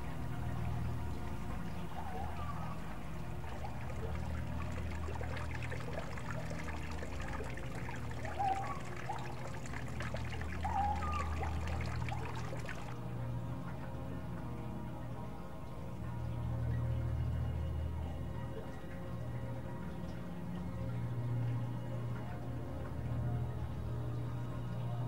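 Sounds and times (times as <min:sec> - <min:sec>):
steady low hum: 0:00.0 - 0:25.0
water trickling and splashing: 0:00.0 - 0:25.0.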